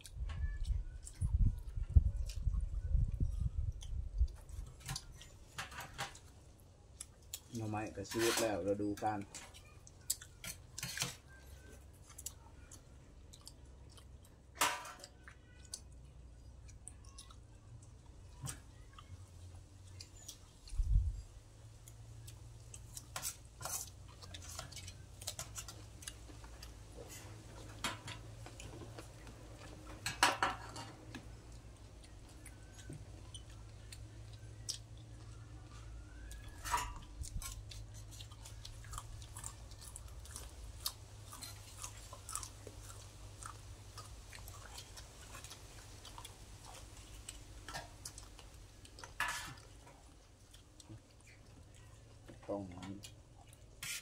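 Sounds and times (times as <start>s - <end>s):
people chewing and eating: 0.0s - 54.0s.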